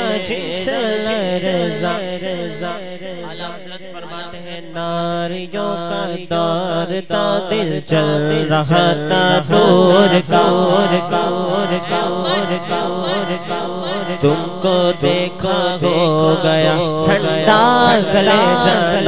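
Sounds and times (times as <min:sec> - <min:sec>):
man singing: 0:00.0 - 0:19.0.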